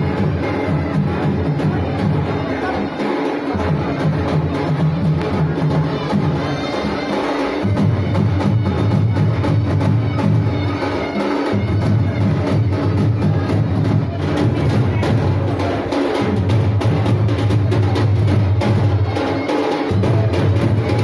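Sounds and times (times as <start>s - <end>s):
drum-led music: 0.0s - 21.0s.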